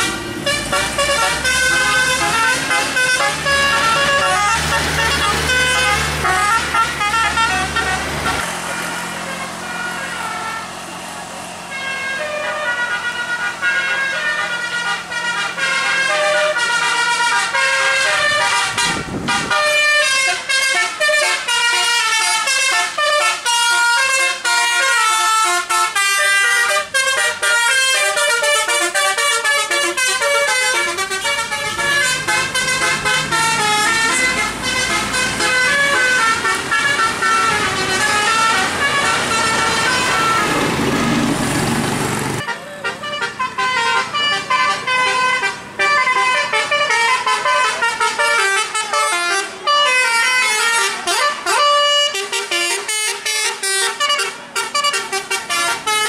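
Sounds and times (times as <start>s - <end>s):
bus air horns playing tunes: 0.0s - 41.2s, 42.3s - 56.0s
bus engine rumble: 0.0s - 56.0s.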